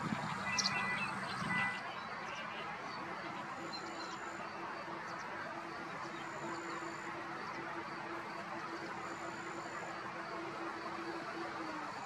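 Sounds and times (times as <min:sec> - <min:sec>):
continuous low hum: 0:00.0 - 0:12.0.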